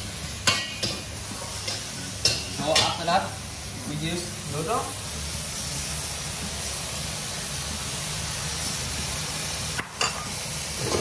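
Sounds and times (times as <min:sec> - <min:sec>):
vegetables sizzling in wok: 0:00.0 - 0:11.0.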